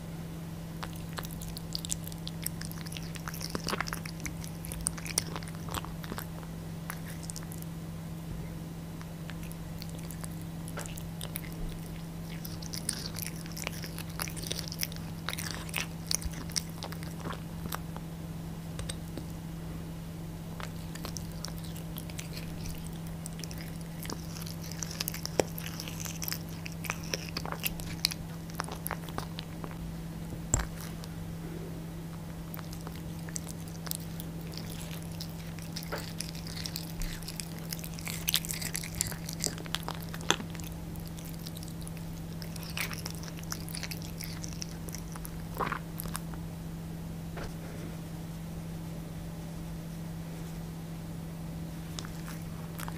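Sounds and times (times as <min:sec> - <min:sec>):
low hum: 0:00.0 - 0:52.9
cat chewing with wet crunches: 0:00.7 - 0:07.8, 0:09.0 - 0:18.1, 0:18.7 - 0:19.4, 0:20.5 - 0:31.3, 0:32.0 - 0:46.5, 0:51.7 - 0:52.9.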